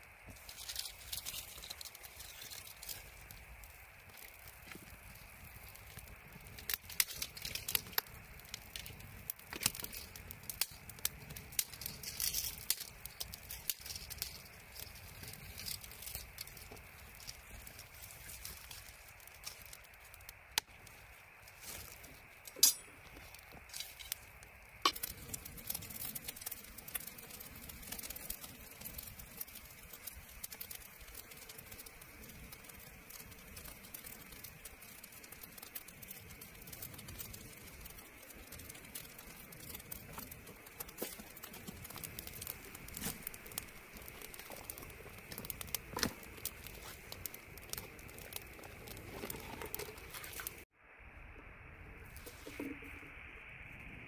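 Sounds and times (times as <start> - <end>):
wood fire crackling and popping: 0.0 - 50.7
low steady hiss: 0.0 - 54.0.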